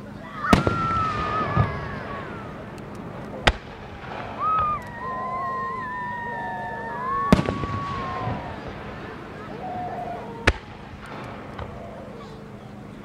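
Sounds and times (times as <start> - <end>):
firework shells bursting: 0.4 - 6.3, 6.9 - 12.6
firework whistle: 0.4 - 12.7.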